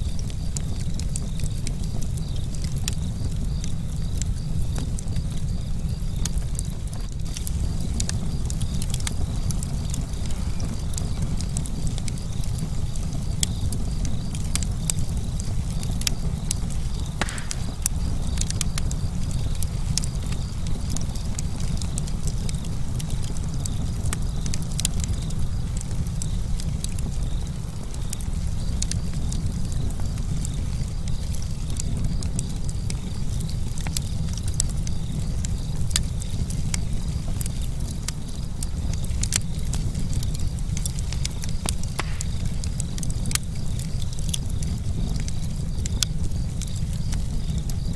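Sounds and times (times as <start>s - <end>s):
sharp crackles and clicks: 0.0s - 47.9s.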